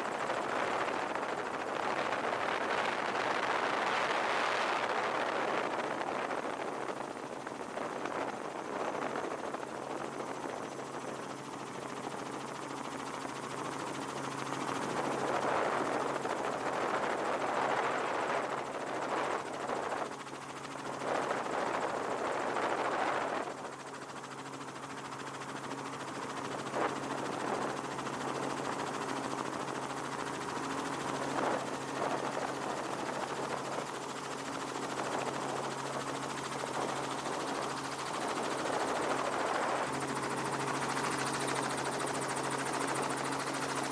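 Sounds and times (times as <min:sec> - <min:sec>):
helicopter rotor chopping: 0:00.0 - 0:43.9.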